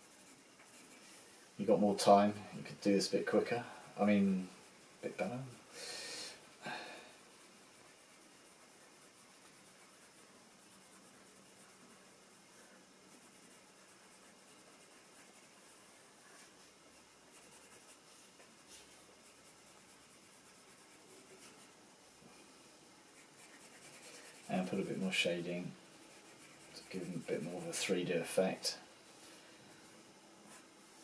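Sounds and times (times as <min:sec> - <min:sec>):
pencil scratching on paper: 0:00.0 - 0:05.7, 0:07.2 - 0:21.8, 0:23.0 - 0:31.0.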